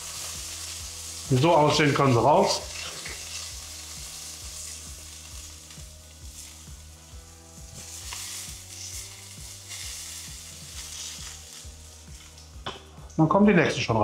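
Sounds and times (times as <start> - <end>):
meat sizzling in hot oil: 0.0 - 13.1
oil popping and crackling: 0.0 - 13.2.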